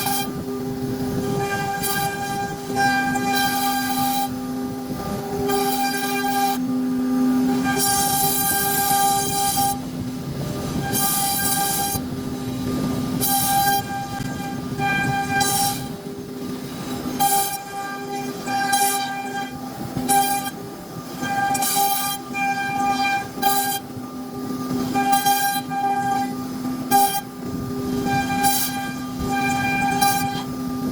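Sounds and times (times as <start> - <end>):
router spindle whining: 0.0 - 30.9.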